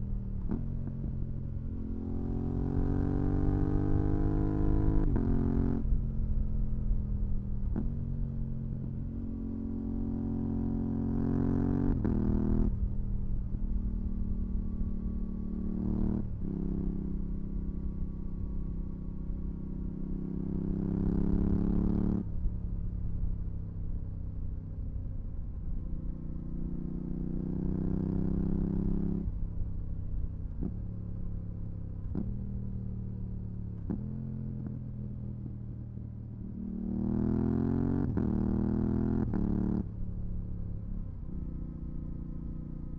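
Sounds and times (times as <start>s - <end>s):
motorcycle engine accelerating: 0.0s - 22.5s, 25.8s - 42.9s.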